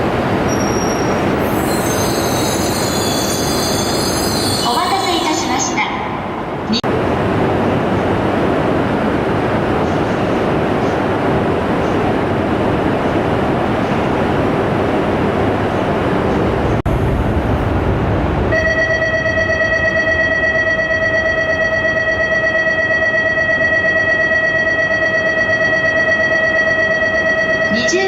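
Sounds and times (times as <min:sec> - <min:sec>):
train rumble and rush: 0:00.0 - 0:22.5.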